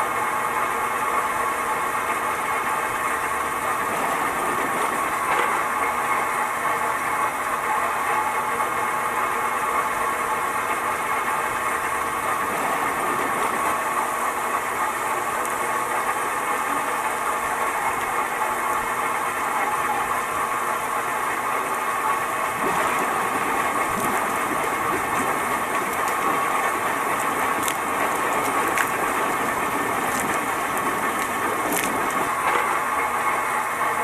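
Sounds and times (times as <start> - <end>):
churning bubbling water: 0.0 - 34.0
mechanical hum: 0.0 - 34.0.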